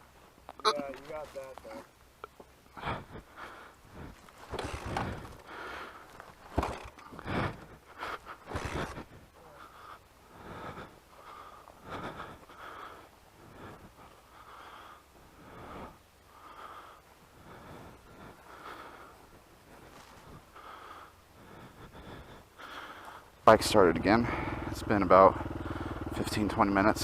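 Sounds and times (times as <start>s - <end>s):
person panting: 2.7s - 23.4s, 24.2s - 24.7s, 25.6s - 26.1s.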